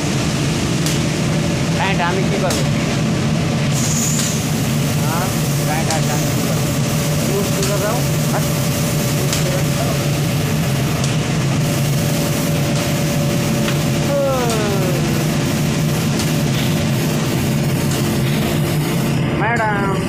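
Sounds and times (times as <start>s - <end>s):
factory machinery hum and whine: 0.0s - 20.0s.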